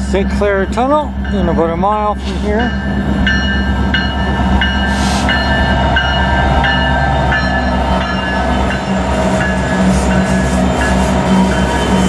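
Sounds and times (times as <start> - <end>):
bell ringing: 0.0 - 12.0
locomotive engine drone: 0.0 - 12.0
train wheels on rails: 0.0 - 12.0.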